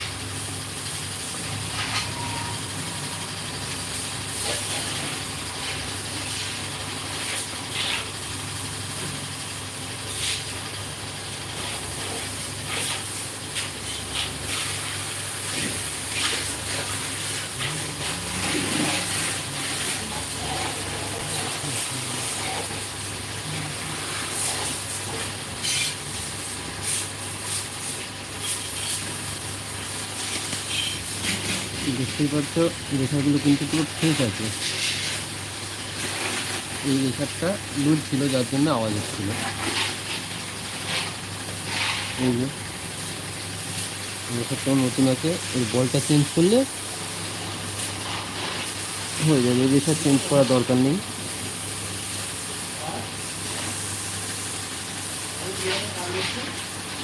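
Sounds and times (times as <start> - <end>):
low hum and hiss: 0.0 - 57.0.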